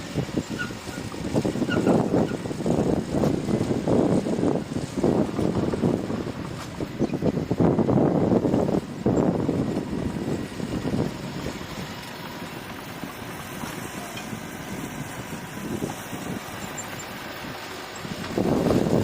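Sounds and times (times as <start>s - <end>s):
bulldozer diesel engine: 0.0s - 19.0s.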